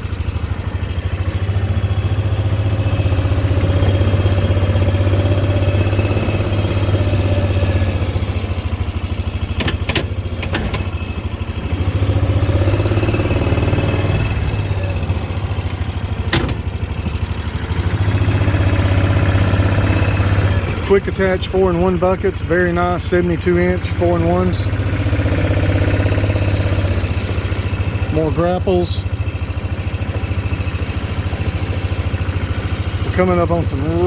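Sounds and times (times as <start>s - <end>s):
vehicle engine droning: 0.0s - 34.0s.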